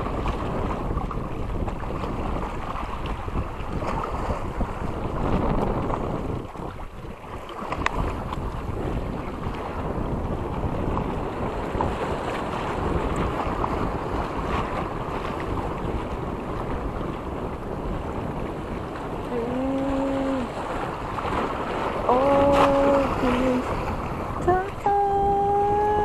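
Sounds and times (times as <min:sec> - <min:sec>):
choppy sea: 0:00.0 - 0:26.0
wind buffeting microphone: 0:00.0 - 0:26.0.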